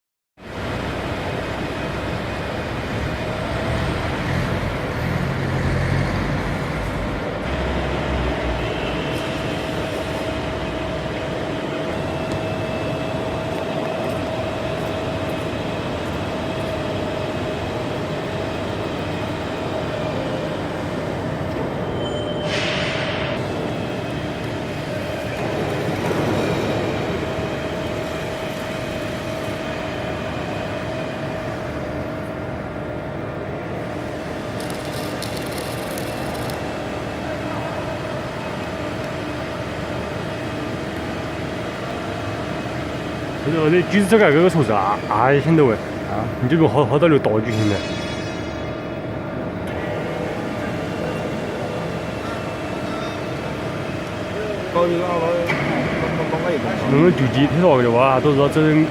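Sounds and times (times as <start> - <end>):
hydraulic pump hum with whine: 0.4 - 58.9.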